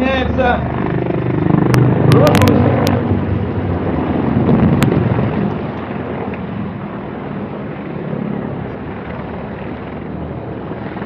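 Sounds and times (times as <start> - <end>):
helicopter engine and rotor: 0.0 - 11.0
wind on microphone: 0.0 - 11.0.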